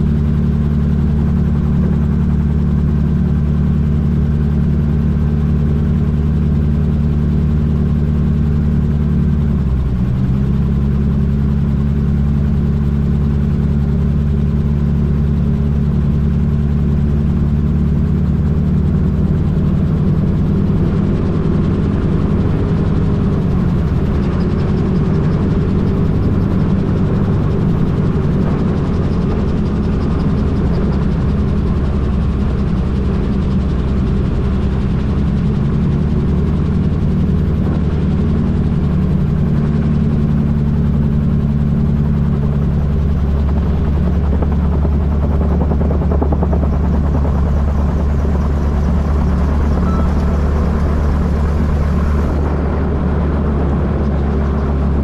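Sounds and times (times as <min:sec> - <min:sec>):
gyrocopter engine and propeller: 0:00.0 - 0:55.0.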